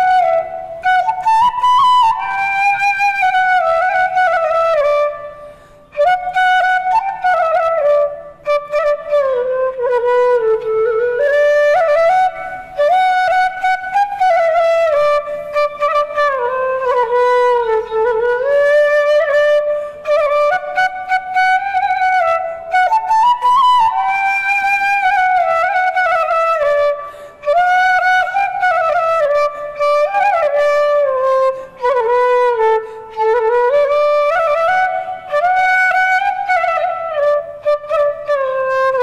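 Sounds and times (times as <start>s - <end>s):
bamboo flute melody: 0.0s - 39.0s.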